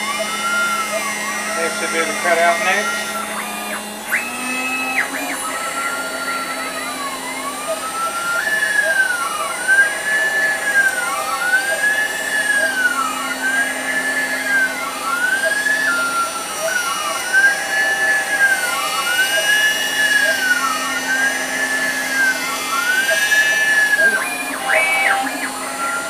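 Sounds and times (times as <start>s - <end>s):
cnc router spindle running: 0.0s - 26.0s
stepper motor whine: 0.0s - 26.0s.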